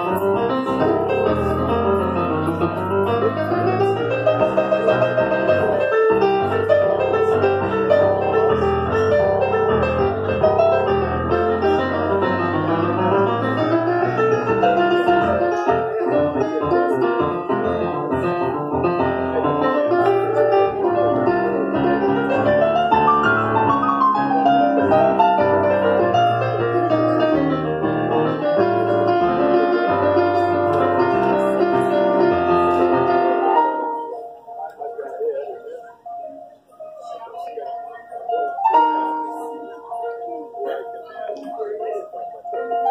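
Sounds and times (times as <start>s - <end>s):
keyboard playing piano sound: 0.0s - 42.9s.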